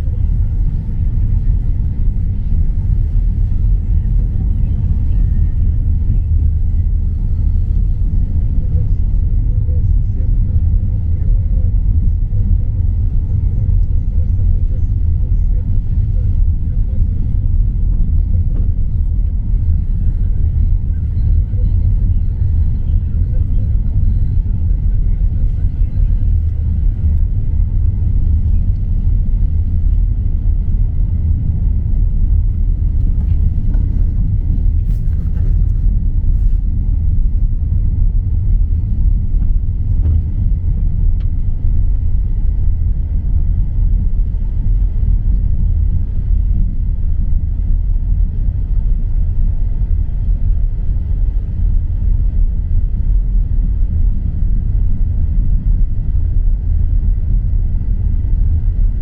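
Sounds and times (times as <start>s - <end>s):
motor vehicle rumbling: 0.0s - 59.0s.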